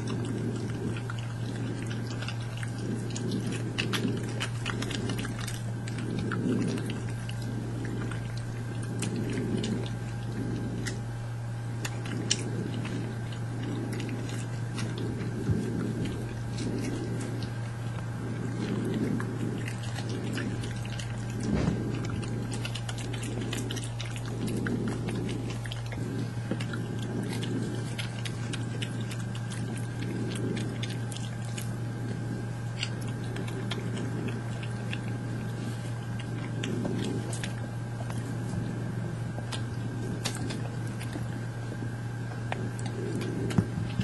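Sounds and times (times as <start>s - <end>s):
badgers crunching nuts: 0.0s - 44.0s
electrical hum: 0.0s - 44.0s.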